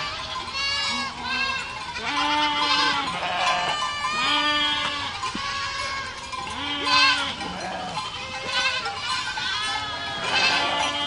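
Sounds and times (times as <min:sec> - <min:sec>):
goats bleating: 0:00.0 - 0:11.0.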